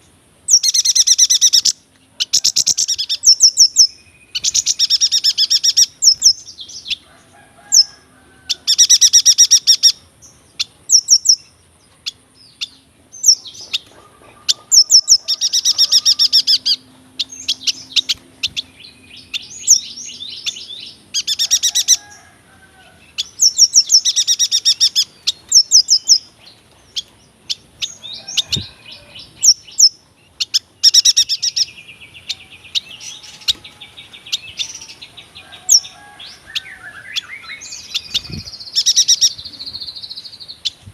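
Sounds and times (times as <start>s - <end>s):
high bird chirps: 0.0s - 7.1s, 10.6s - 22.3s, 23.1s - 40.8s.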